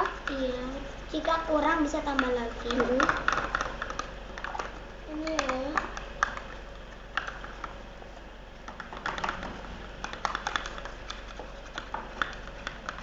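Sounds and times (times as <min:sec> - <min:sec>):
stirrers clicking against container: 0:00.0 - 0:07.8, 0:08.7 - 0:13.0.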